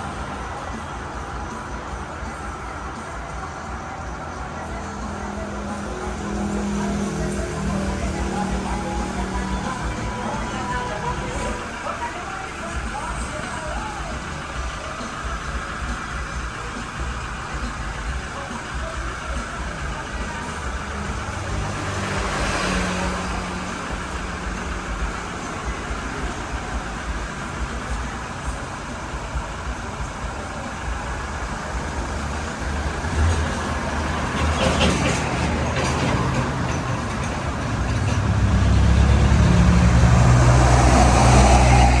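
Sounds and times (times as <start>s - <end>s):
road noise hiss: 0.0s - 42.0s
vehicle engine hum and rumble: 0.0s - 42.0s.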